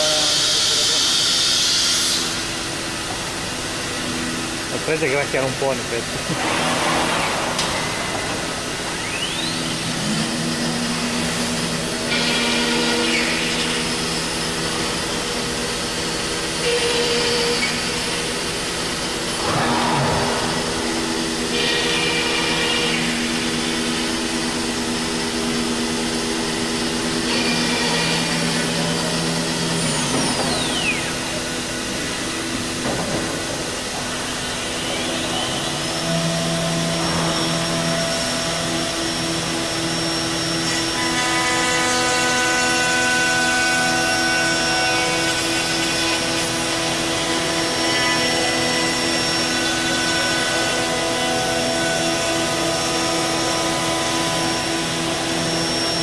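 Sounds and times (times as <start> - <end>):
machine mechanical hum: 0.0 - 56.0
machine whining tones: 0.0 - 56.0.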